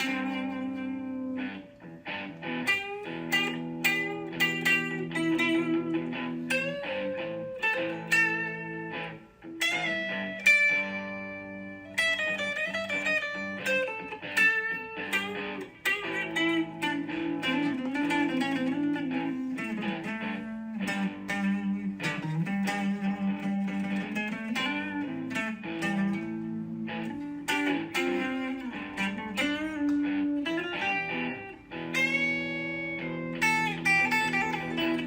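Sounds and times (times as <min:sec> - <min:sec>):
plucked electric guitar melody: 0:00.0 - 0:35.0.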